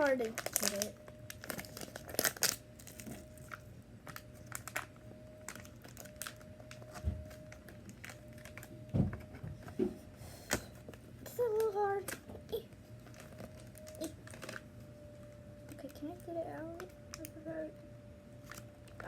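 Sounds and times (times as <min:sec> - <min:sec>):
packaging crinkling: 0:00.0 - 0:09.0, 0:10.5 - 0:17.4, 0:18.4 - 0:19.0.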